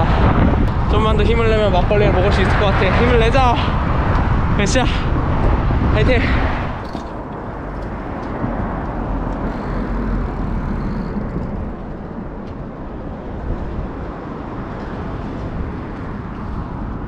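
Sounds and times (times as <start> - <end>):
deep rumble: 0.0 - 17.0
road traffic noise: 0.0 - 17.0
wind buffeting microphone: 0.0 - 17.0.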